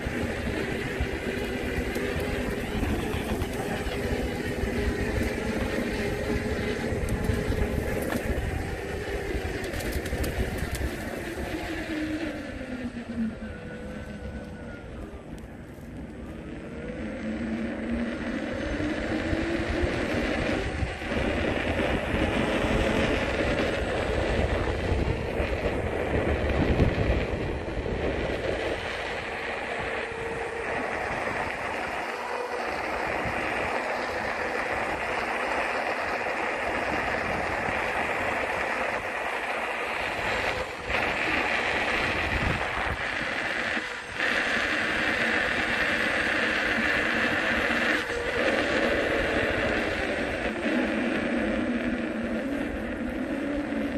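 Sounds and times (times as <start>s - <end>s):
road noise: 0.0s - 53.9s
wind noise on microphone: 0.0s - 53.9s.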